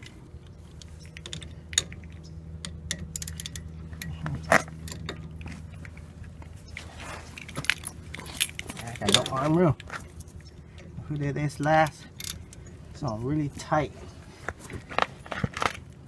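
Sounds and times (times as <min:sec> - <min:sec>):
metal tools clinking and rattling: 0:00.0 - 0:13.8
steady low hum: 0:00.0 - 0:16.0.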